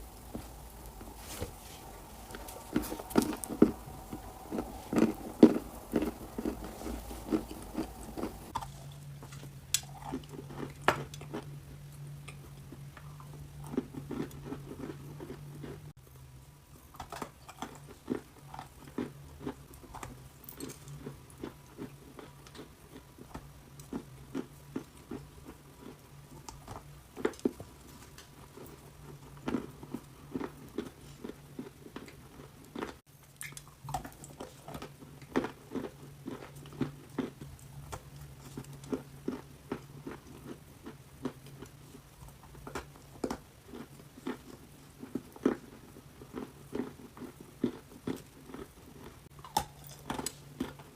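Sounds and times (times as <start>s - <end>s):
crunching and chewing clay: 0.0s - 16.1s, 16.7s - 50.9s
faint low hum: 0.0s - 50.9s.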